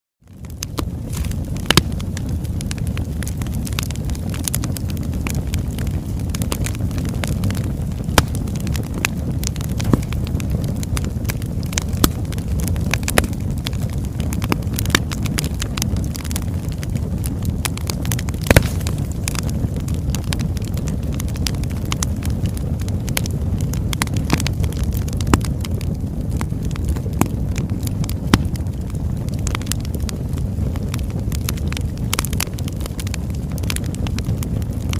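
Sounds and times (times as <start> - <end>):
fire crackles and pops: 0.2 - 34.9
rumble of flames: 0.2 - 34.9.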